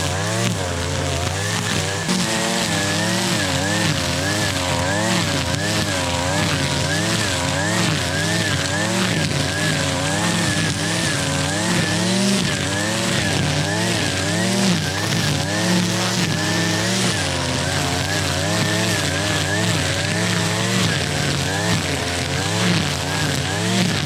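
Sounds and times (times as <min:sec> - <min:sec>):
string trimmer engine running: 0:00.0 - 0:24.0
trimmer line cutting grass: 0:00.0 - 0:24.0.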